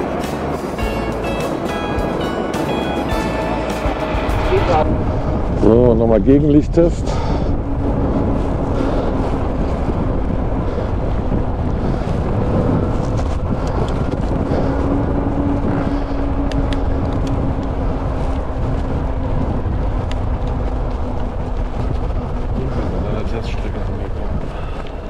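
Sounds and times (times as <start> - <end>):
low hum and rumble: 0.0 - 25.0
wind on microphone: 0.0 - 25.0.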